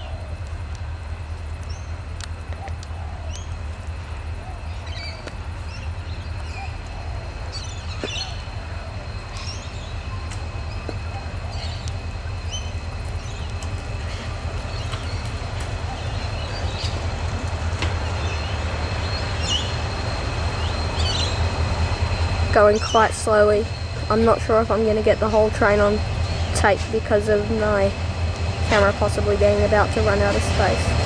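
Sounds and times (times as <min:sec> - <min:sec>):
diesel locomotive engine rumble: 0:00.0 - 0:31.0.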